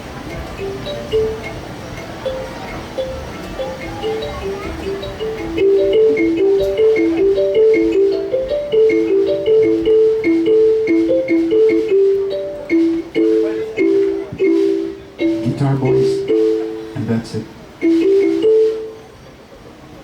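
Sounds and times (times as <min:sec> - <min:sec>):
struck melodic instrument riff: 0:00.0 - 0:19.2.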